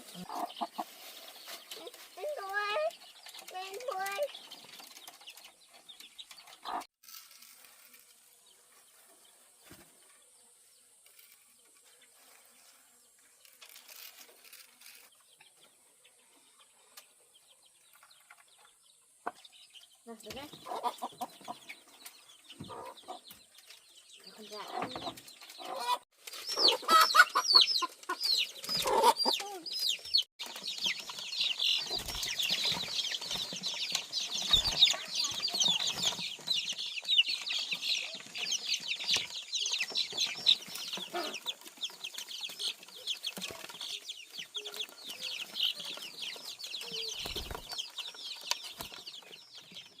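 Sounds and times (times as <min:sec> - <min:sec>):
chickens peeping and clucking: 0:00.0 - 0:06.9, 0:08.1 - 0:50.0.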